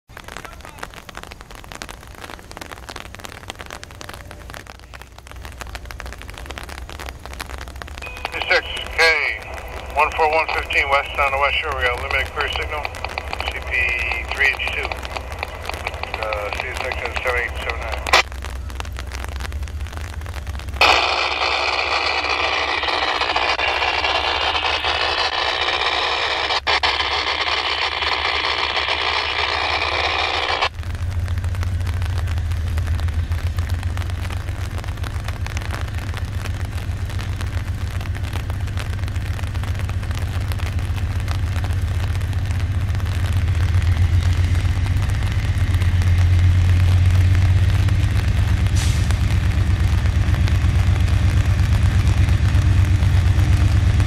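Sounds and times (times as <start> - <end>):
light rain pattering: 0.1 - 54.0
radio static hiss: 0.1 - 54.0
diesel locomotives rumbling: 3.9 - 54.0.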